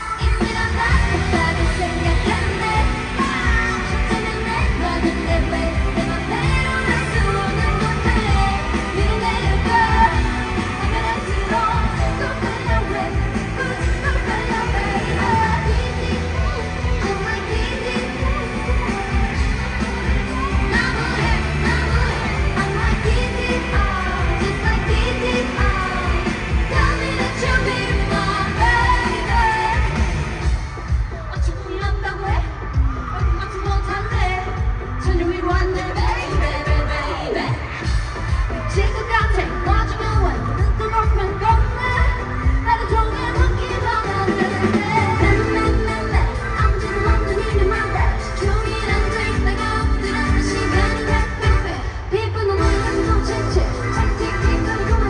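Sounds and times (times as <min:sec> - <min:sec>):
pop music over sound system: 0:00.0 - 0:55.0
women singing: 0:00.0 - 0:55.0.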